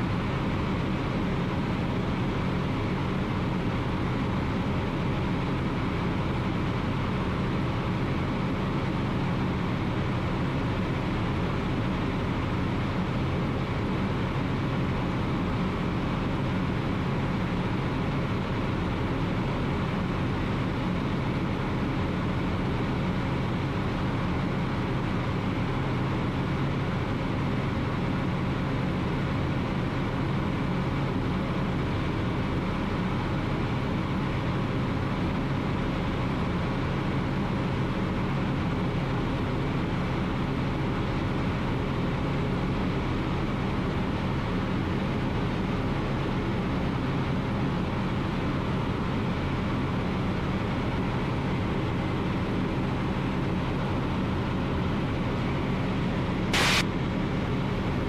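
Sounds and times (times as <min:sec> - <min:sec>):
ultralight aircraft engine drone: 0:00.0 - 0:58.0.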